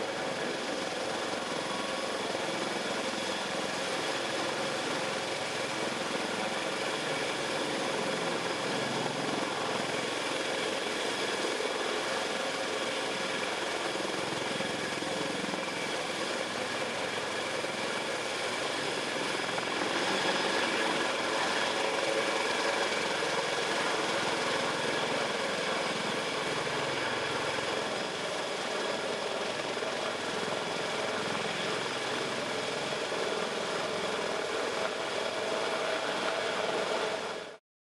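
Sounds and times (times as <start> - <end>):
helicopter engines whining: 0.0 - 37.6
helicopter rotor noise: 0.0 - 37.6.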